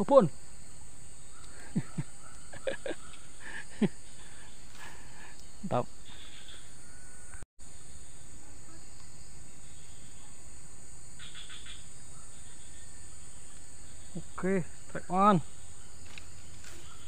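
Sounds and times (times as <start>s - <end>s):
insects chorus: 0.0s - 17.0s
rapid insect chirps: 0.0s - 17.0s.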